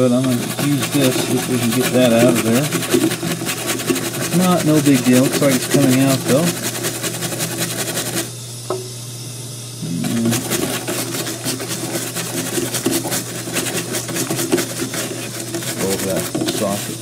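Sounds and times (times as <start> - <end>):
brush scrubbing wet circuit board: 0.0 - 8.3, 10.0 - 17.0.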